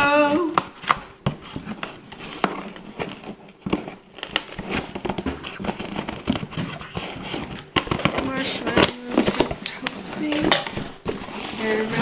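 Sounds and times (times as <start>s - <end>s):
packaging crinkling and rustling: 0.3s - 12.0s.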